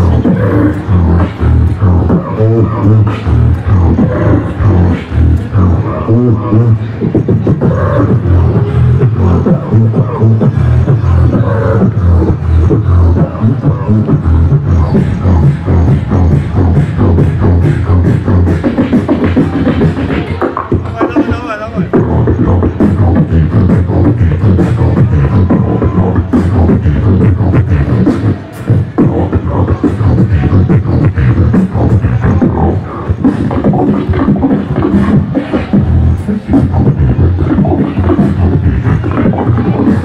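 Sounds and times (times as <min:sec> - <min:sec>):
beatboxing through a microphone: 0:00.0 - 0:40.0.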